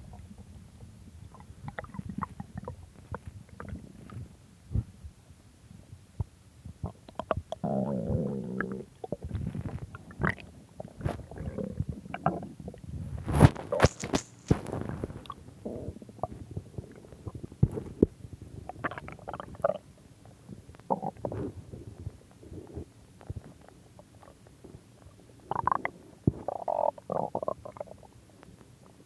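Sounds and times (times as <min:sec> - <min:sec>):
stomach growling and gurgling: 0:00.0 - 0:05.0, 0:05.7 - 0:29.0.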